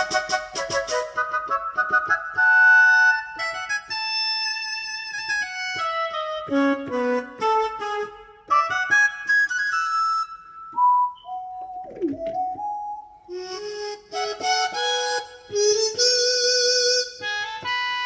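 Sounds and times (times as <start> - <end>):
keyboard playing a melody: 0.0 - 18.0.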